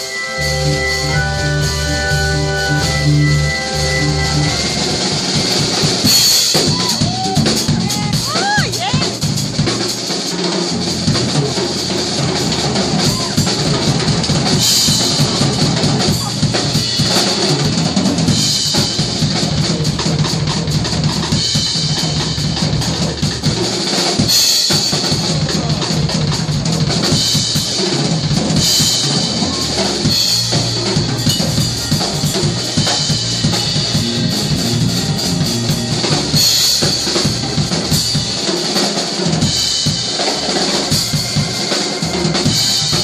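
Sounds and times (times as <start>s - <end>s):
drum kit playing: 0.0s - 43.0s.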